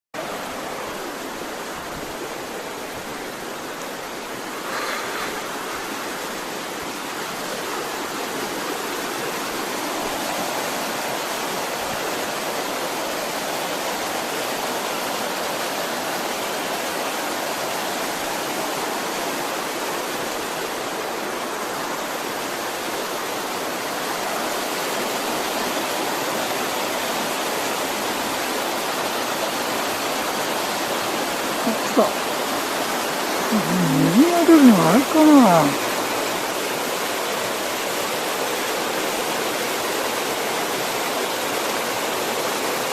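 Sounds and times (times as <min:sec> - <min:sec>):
small waterfall splashing: 0:00.2 - 0:33.5, 0:34.5 - 0:42.9.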